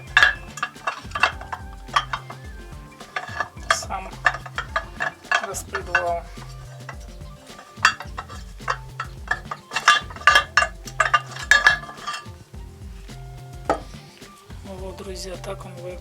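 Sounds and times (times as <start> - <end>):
metal clinking and scraping: 0.0 - 14.7
background music with steady beat: 0.0 - 16.0.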